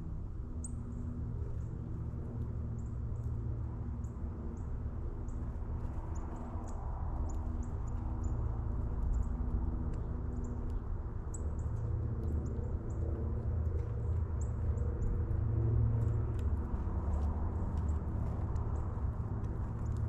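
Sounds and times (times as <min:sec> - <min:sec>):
low mechanical rumble and hum: 0:00.0 - 0:20.0.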